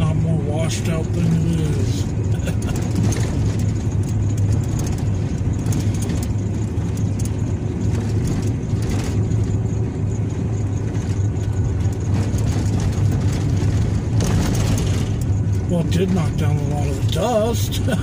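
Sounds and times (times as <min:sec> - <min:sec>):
engine and road hum: 0:00.0 - 0:18.0.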